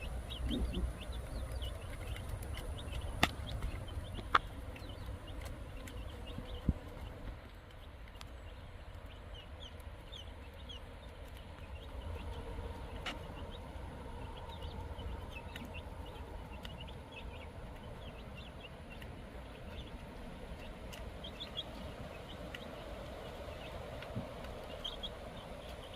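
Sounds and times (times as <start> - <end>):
chickens clucking: 0.0 - 25.9
steady low rumble: 0.0 - 25.9.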